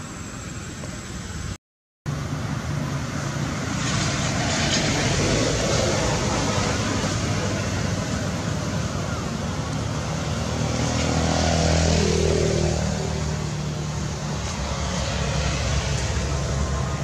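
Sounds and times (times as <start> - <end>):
vehicle engine passing: 2.1 - 17.0.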